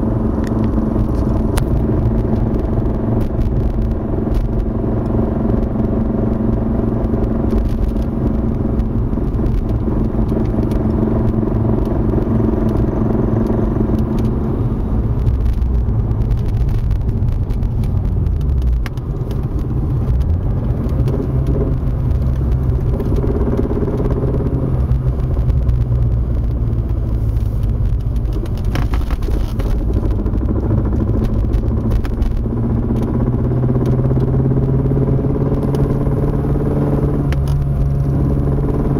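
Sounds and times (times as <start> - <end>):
car engine and drivetrain hum: 0.0 - 38.9.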